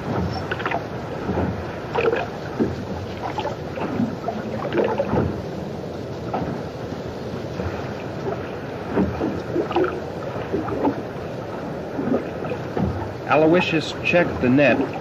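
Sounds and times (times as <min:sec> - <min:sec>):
splashes or knocks: 0:00.0 - 0:05.4, 0:07.6 - 0:15.0
water rushing: 0:00.0 - 0:15.0.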